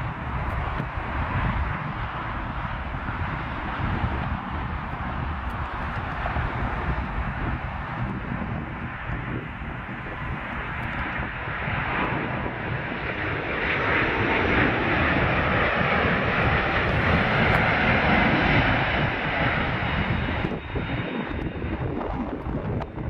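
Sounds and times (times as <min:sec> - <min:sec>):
cargo plane engine landing: 0:00.0 - 0:23.0.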